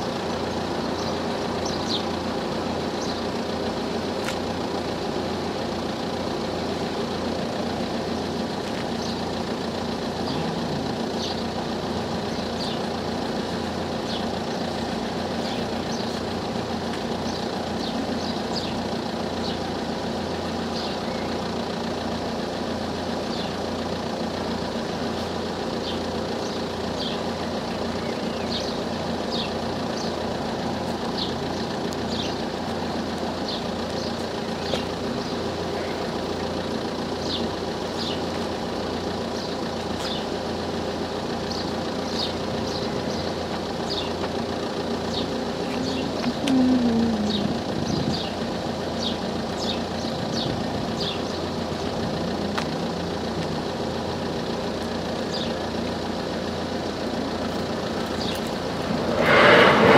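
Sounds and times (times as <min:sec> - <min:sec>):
car engines idling: 0:00.0 - 0:59.9.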